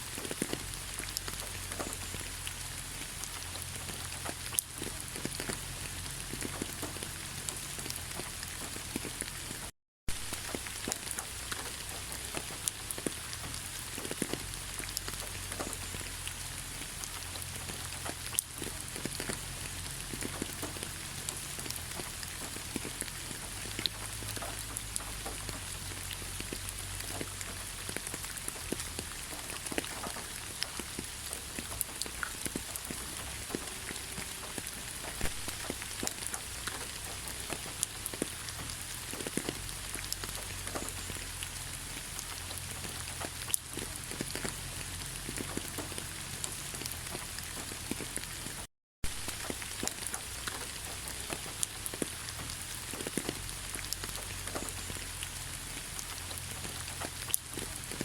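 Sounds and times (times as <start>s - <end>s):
rain hissing: 0.0s - 58.0s
raindrops pattering close by: 0.0s - 58.0s.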